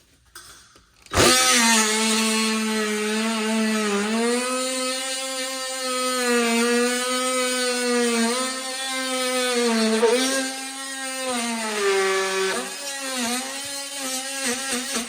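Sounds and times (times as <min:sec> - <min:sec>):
handheld power tool running: 0:01.0 - 0:15.0.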